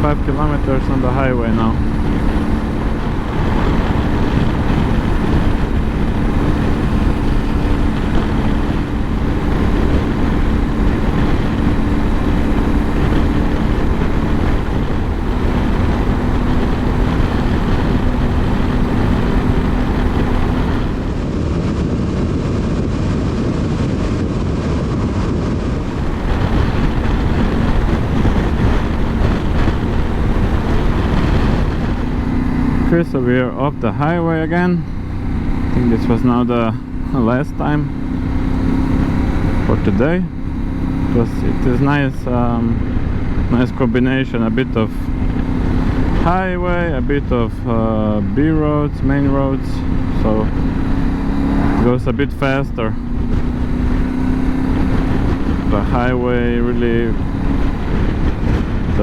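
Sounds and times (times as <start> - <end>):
motorcycle engine cruising: 0.0 - 59.0
wind rushing over helmet: 0.0 - 59.0.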